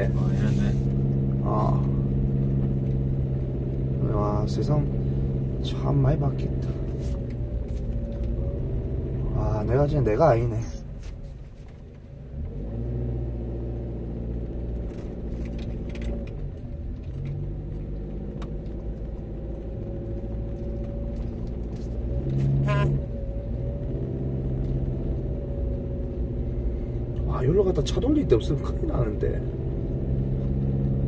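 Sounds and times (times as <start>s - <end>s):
car engine from inside cabin: 0.0s - 31.0s.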